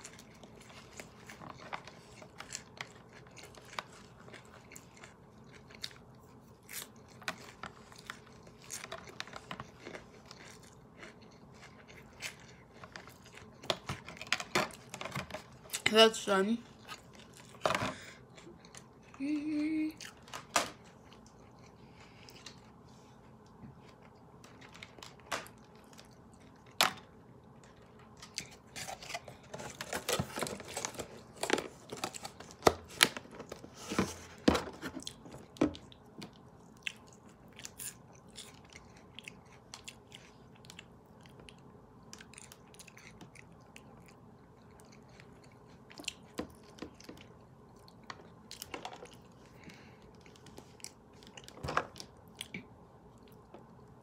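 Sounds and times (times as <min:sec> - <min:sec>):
chewing and crunching salad: 0:00.0 - 0:54.0.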